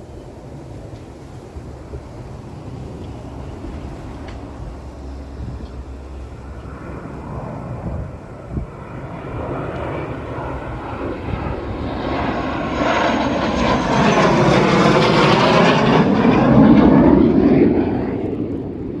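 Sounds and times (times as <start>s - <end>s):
airplane passing overhead: 0.0s - 19.0s.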